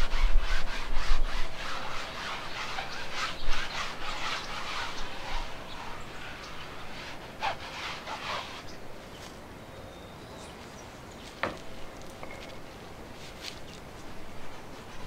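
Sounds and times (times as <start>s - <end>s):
brush scrubbing on canvas: 0.0s - 9.4s, 10.5s - 15.0s.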